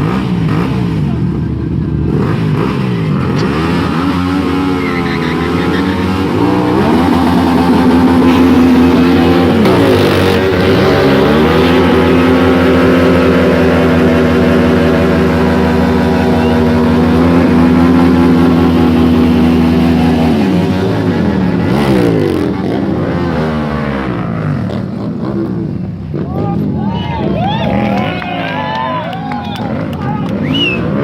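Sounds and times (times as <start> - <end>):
superbike engine revving: 0.0 - 31.0.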